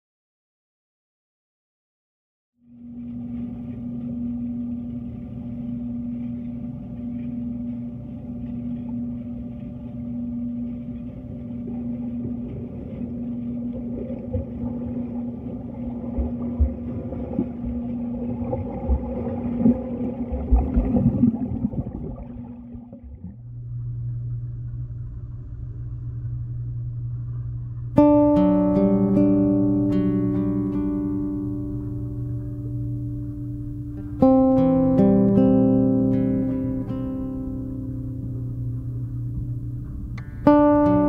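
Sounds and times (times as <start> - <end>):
underwater low hum: 2.6 - 41.0.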